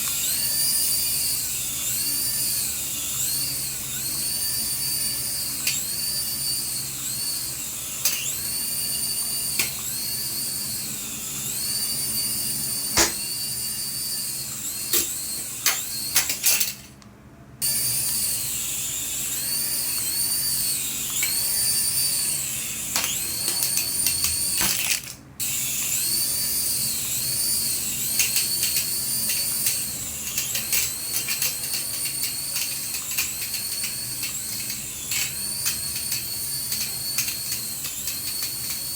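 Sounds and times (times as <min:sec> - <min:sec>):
toy electric motor whining: 0:00.0 - 0:16.9, 0:17.6 - 0:38.9.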